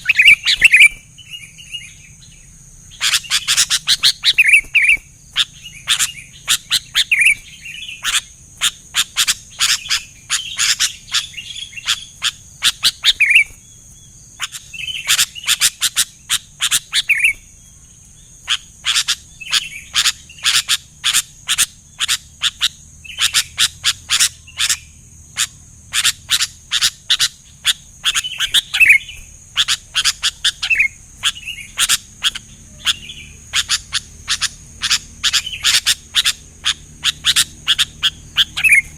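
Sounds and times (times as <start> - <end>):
bird chirping and whistling: 0.0 - 13.6, 14.4 - 17.4, 18.4 - 38.9.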